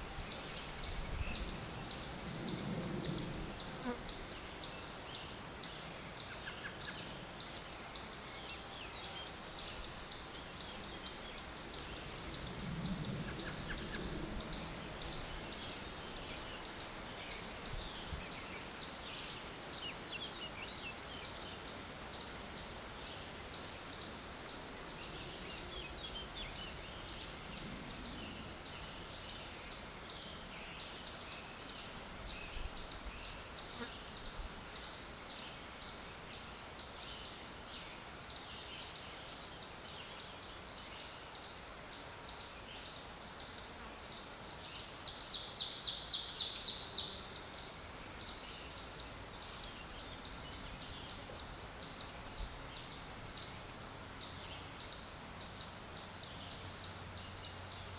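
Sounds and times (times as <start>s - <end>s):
soft background hiss: 0.0s - 57.9s.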